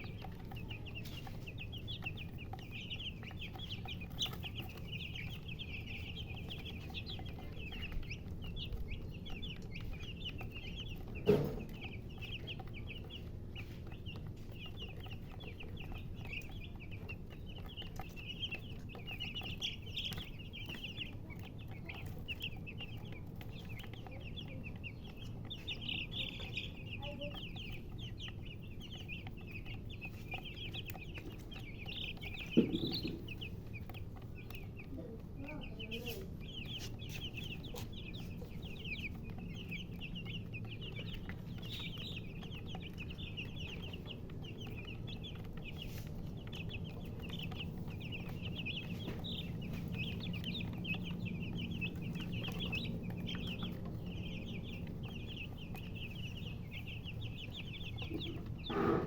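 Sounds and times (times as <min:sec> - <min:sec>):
baby chicks peeping: 0:00.0 - 0:59.0
low steady hum: 0:00.0 - 0:59.0.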